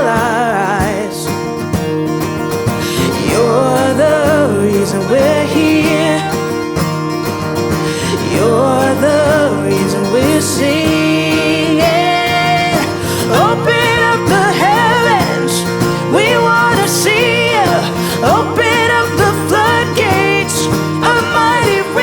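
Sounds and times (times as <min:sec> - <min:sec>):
people singing a worship song: 0:00.0 - 0:01.6, 0:02.7 - 0:06.9, 0:07.7 - 0:22.0
acoustic guitar: 0:00.0 - 0:22.0.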